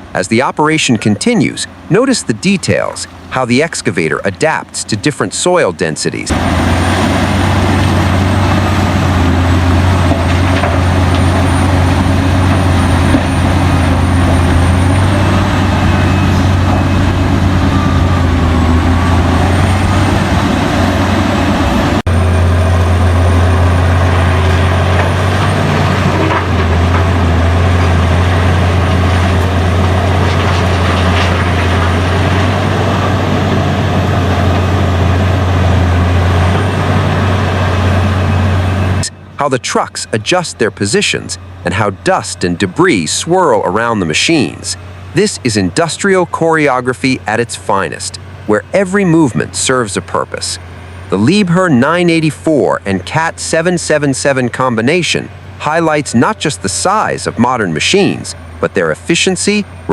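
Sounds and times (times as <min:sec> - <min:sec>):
heavy diesel engines droning: 0:00.0 - 0:59.9.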